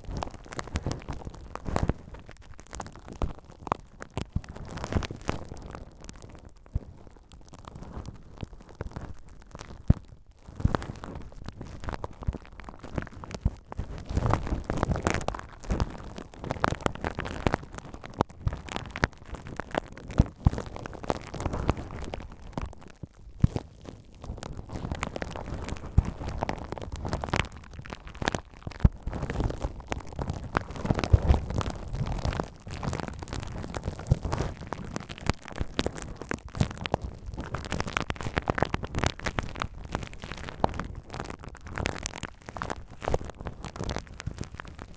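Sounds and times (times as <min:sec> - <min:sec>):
bubble wrap crinkling: 0:00.0 - 0:44.9.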